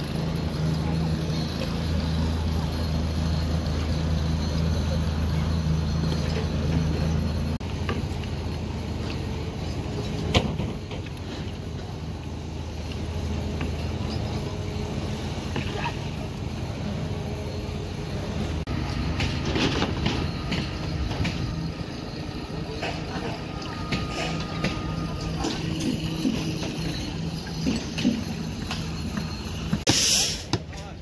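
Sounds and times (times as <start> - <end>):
light clinks: 0.0 - 29.9
machinery engine hum: 0.0 - 29.9.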